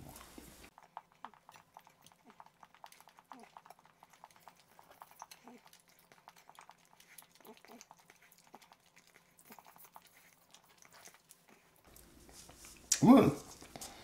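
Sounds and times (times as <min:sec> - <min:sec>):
chewing sticky candy: 0:00.0 - 0:14.0.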